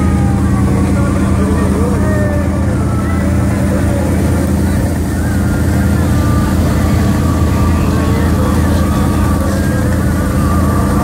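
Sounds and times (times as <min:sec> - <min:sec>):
faint crowd voices: 0:00.0 - 0:11.0.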